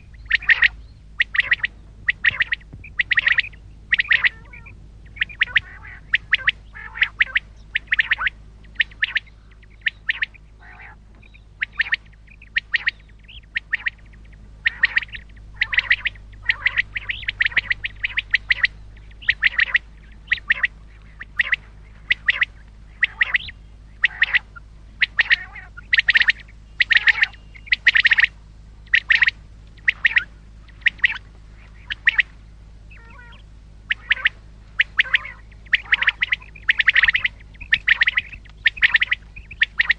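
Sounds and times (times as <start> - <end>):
faint steady hum: 0.0 - 39.9
quail calling: 0.0 - 39.9.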